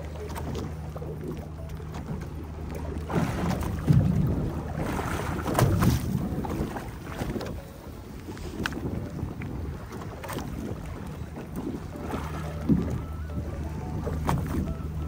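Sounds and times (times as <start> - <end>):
boat engine hum: 0.0 - 15.0
wind buffeting microphone: 2.8 - 15.0.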